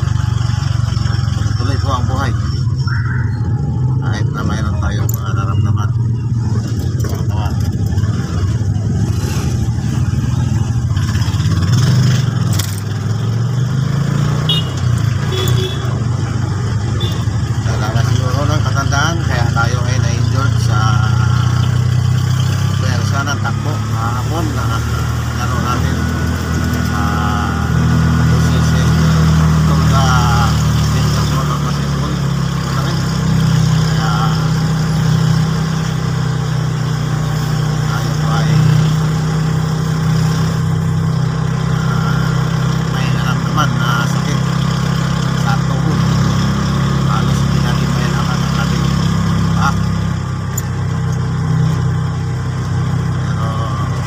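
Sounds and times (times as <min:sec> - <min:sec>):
motorcycle tricycle engine running: 0:00.0 - 0:54.0
road noise: 0:00.0 - 0:54.0.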